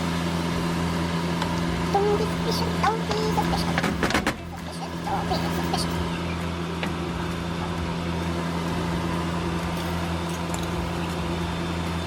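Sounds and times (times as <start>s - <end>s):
appliance motor and fan hum: 0.0s - 12.0s.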